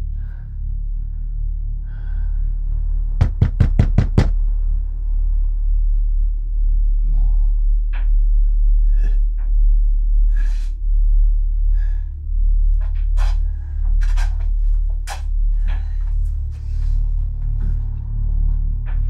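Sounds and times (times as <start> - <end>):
low horror music drone: 0.0 - 19.0.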